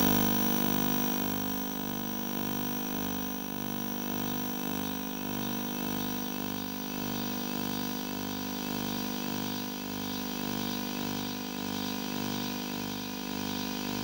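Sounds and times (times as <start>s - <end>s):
electronic buzzing drone: 0.0s - 14.0s.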